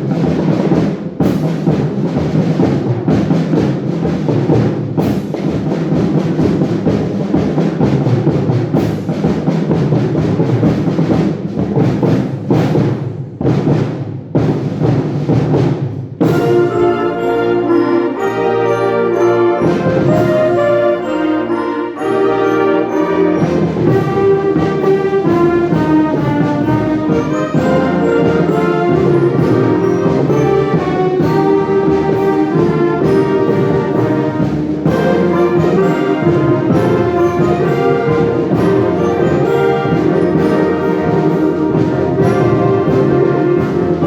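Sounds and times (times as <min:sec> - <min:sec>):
concert wind band playing: 0:00.0 - 0:44.0.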